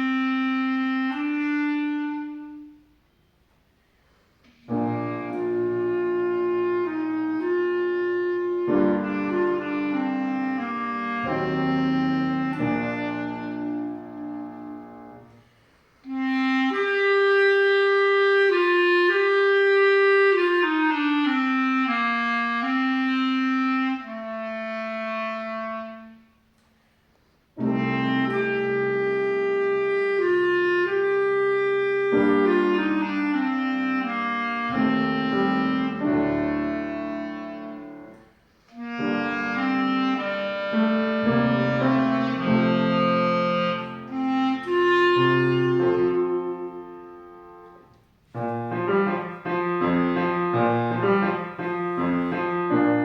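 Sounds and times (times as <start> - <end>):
piano accompaniment: 0.0 - 2.8, 4.4 - 26.3, 27.5 - 53.0
wind instrument melody: 0.0 - 3.3, 4.4 - 26.6, 27.6 - 53.0.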